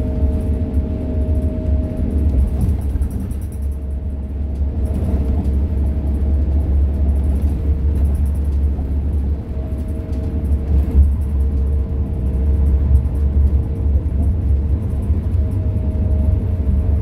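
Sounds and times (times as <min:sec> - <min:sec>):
bus engine and tyre rumble: 0:00.0 - 0:17.0.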